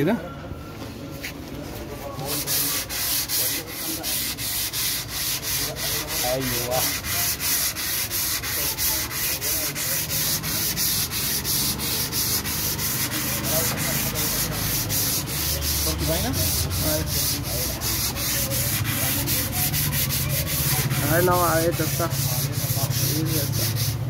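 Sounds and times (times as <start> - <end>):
sandpaper scratching strokes: 1.2 - 24.0.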